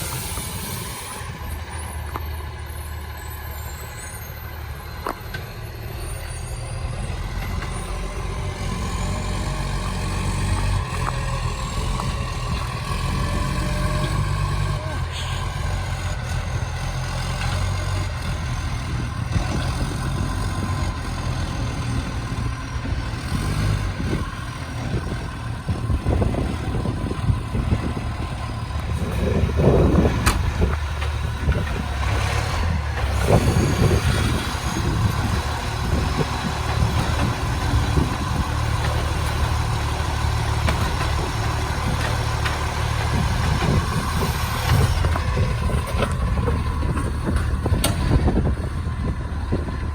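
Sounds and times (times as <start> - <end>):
diesel engine roaring: 0.0 - 49.9.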